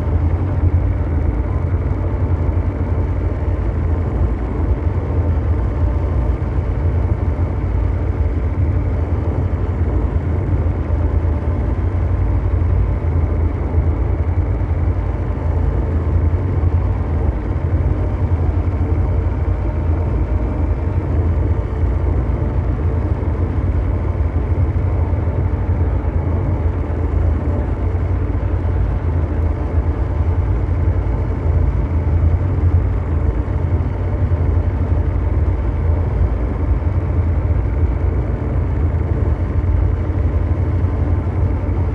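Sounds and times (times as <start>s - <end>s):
mechanical drone rumble: 0.0s - 41.9s.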